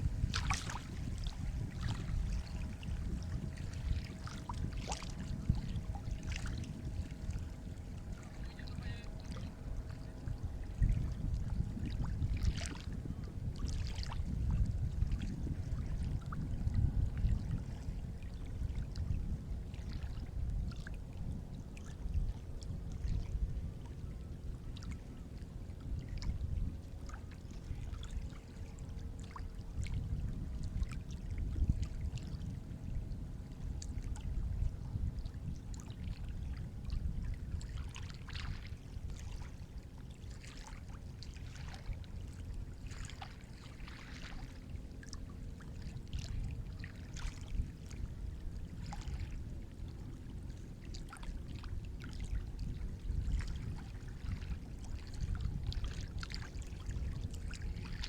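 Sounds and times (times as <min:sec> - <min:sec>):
sea water lapping: 0:00.0 - 0:58.0
small splashes and trickles: 0:00.0 - 0:58.0.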